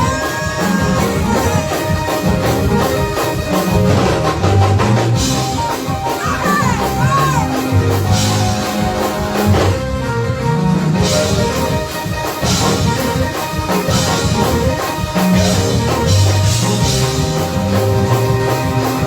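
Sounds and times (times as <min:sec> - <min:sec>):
church band playing gospel music: 0:00.0 - 0:19.0
drum kit: 0:00.0 - 0:19.0
bass: 0:00.7 - 0:03.0, 0:03.6 - 0:05.8, 0:06.4 - 0:11.8, 0:12.4 - 0:19.0.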